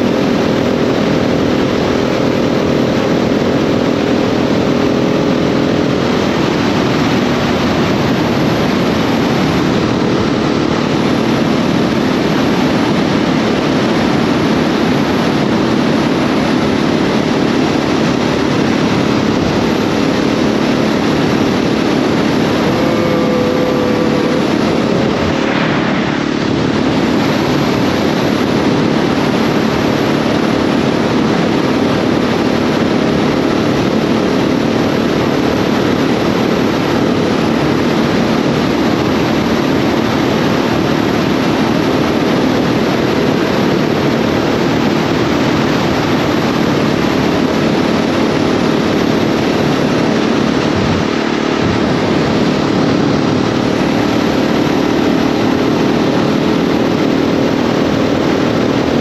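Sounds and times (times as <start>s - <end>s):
constant rush of noise: 0.0s - 59.0s
motorcycle engine running: 0.0s - 59.0s.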